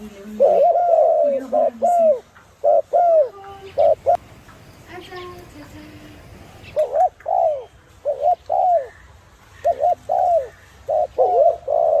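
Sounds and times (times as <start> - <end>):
dove cooing: 0.0 - 4.2, 6.6 - 12.0.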